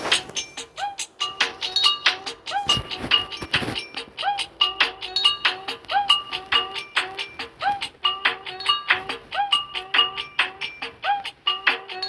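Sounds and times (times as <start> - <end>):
mobile phone ringtone: 0.4 - 12.0.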